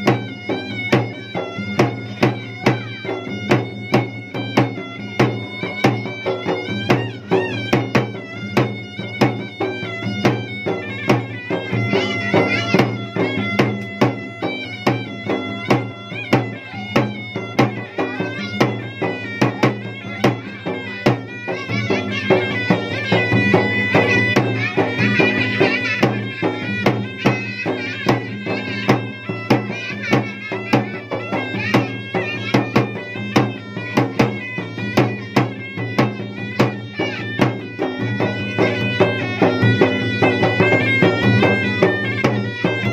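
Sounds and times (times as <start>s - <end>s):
fast drumming: 0.0s - 42.9s
shrill reed shawm melody: 0.0s - 42.9s.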